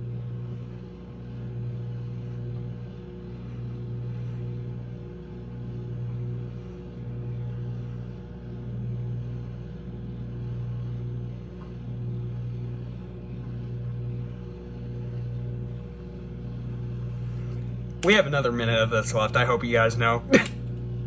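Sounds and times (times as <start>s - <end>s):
microwave oven hum: 0.0s - 21.0s.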